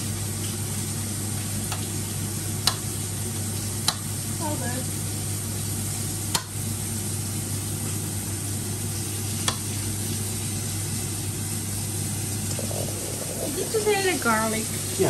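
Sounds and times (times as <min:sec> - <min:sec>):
steak sizzling in a frying pan: 0:00.0 - 0:12.5, 0:13.5 - 0:15.0.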